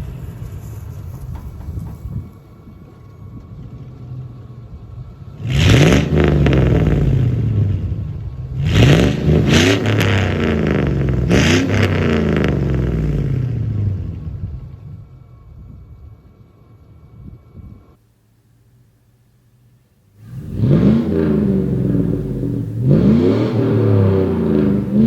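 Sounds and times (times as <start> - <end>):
car exhaust idling and revving: 0.0 - 25.0.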